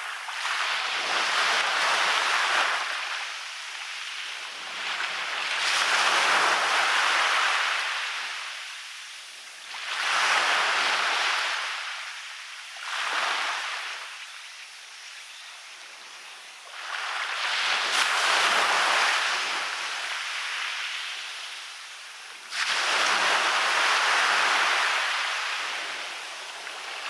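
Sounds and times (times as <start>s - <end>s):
waves washing up a beach: 0.0s - 27.0s.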